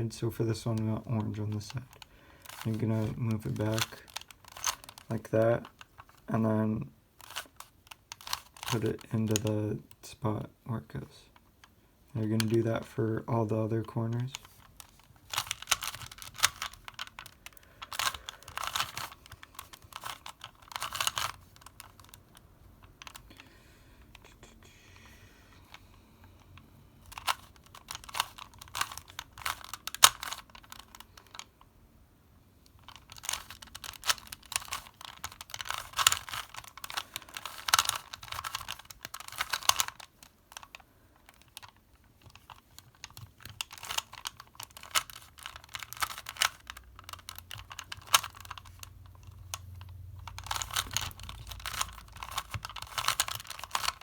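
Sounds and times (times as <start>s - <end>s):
puzzle cube clicking: 0.3s - 6.5s, 7.2s - 9.9s, 14.2s - 31.6s, 32.7s - 54.0s.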